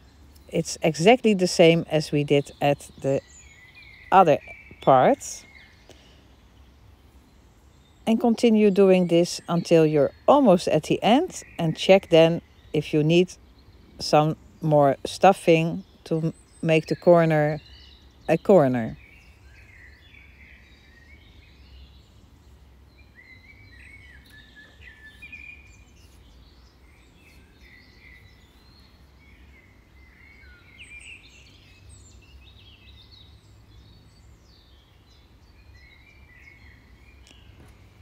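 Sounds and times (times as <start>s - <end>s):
birdsong chirps and warbles: 0.0s - 38.0s
low steady hum: 0.0s - 38.0s.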